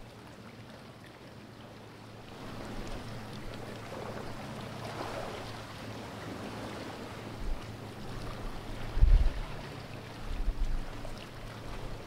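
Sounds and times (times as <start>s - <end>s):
sea water lapping against rocks: 2.2s - 12.0s.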